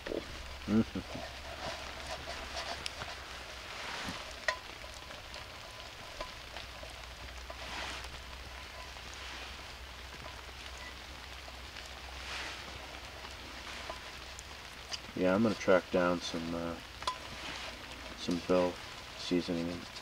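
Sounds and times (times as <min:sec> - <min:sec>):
steak sizzling with pops: 0:00.0 - 0:20.0.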